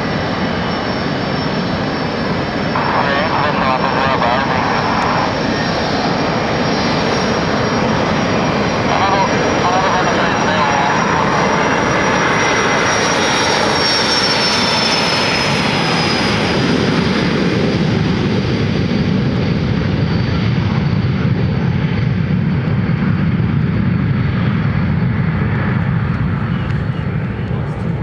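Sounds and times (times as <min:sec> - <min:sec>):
jet engines passing by: 0:00.0 - 0:28.0.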